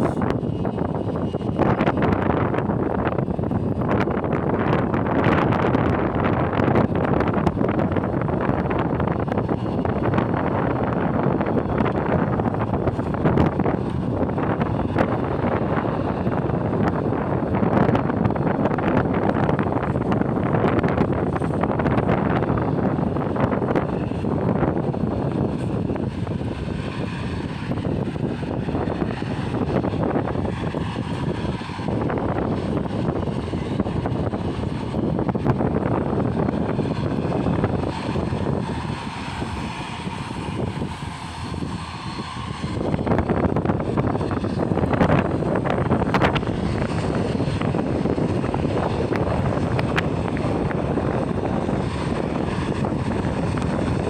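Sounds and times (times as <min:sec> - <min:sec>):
aircraft engine rumble: 0:00.0 - 0:54.0.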